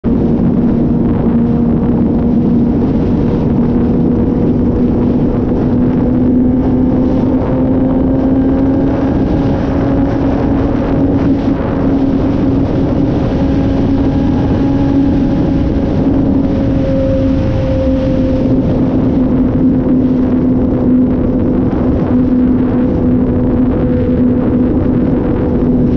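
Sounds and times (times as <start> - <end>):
motorbike engine at high revs: 0.0 - 25.9
wind rush on microphone: 0.0 - 25.9.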